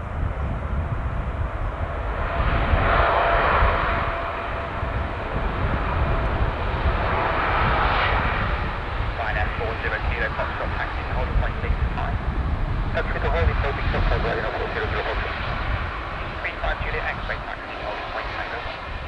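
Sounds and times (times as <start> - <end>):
jet engines landing: 0.0 - 19.0.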